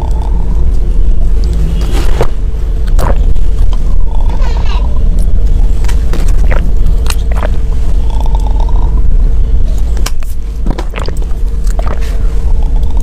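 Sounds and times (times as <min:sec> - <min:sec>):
faint steady hum: 0:00.0 - 0:13.0
steady low rumble: 0:00.0 - 0:13.0.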